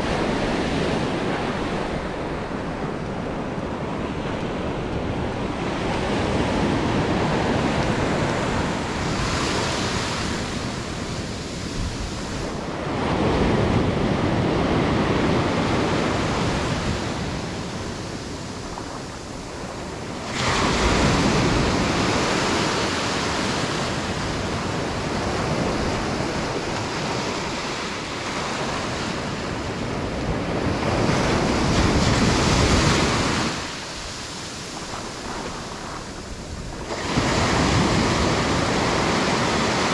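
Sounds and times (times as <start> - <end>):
ocean surf breaking: 0.0 - 39.9
wind on microphone: 0.0 - 39.9.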